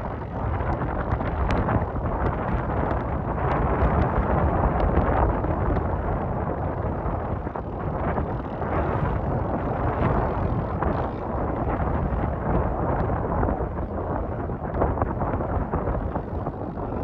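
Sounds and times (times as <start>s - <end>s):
loud steady rumbling: 0.0s - 17.0s
wind buffeting microphone: 0.0s - 17.0s.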